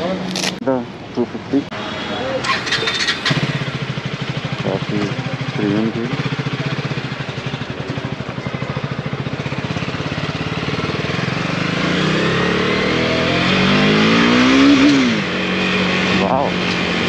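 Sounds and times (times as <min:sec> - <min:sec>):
motorcycle engine accelerating: 0:02.3 - 0:17.0.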